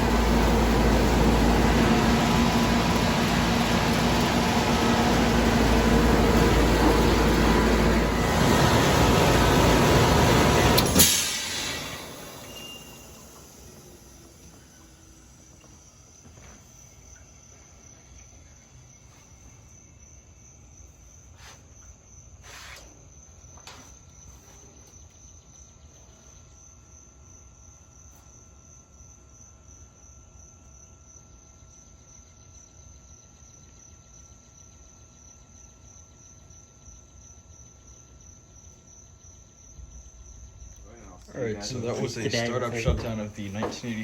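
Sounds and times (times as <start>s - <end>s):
crickets chirping: 0.0s - 44.0s.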